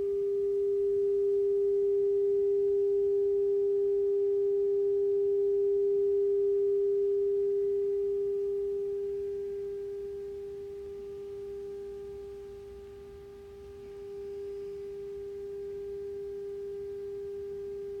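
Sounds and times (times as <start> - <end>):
sine test tone: 0.0 - 18.0.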